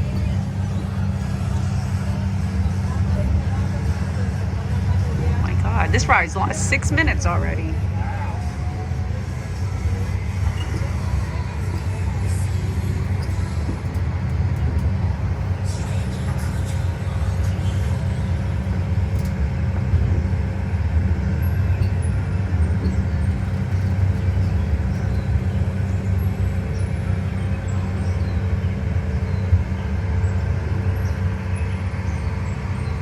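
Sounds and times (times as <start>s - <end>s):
ride train rumbling on track: 0.0s - 33.0s.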